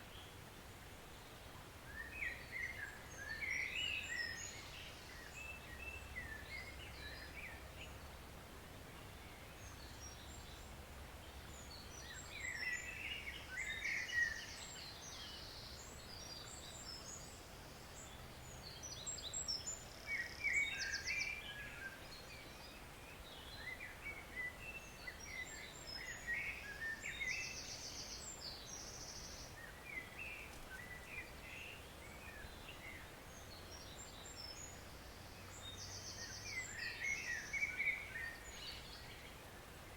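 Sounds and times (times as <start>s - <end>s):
songbirds singing and trilling: 0.0s - 8.2s, 8.8s - 39.9s
faint forest stream rushing: 0.0s - 39.9s.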